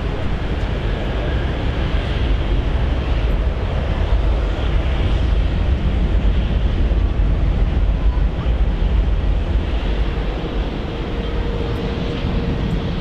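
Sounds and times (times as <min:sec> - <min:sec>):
jet engines rumbling: 0:00.0 - 0:13.0
wind noise on microphone: 0:00.0 - 0:13.0.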